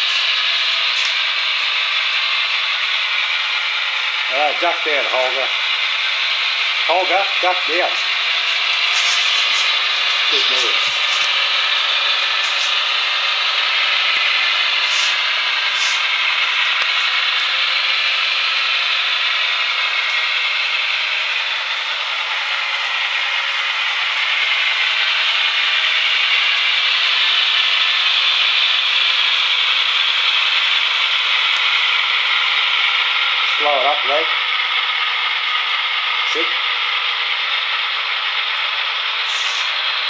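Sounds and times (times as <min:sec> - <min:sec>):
model train wheels on rails: 0:00.0 - 0:40.0.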